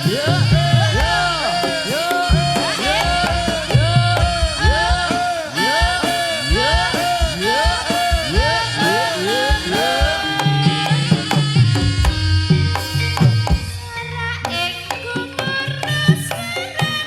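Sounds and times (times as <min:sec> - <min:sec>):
drum strokes: 0:00.0 - 0:16.9.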